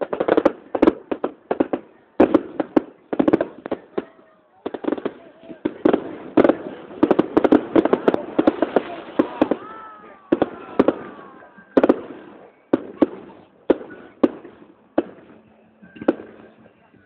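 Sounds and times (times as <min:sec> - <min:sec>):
fireworks crackling bangs: 0:00.0 - 0:16.7.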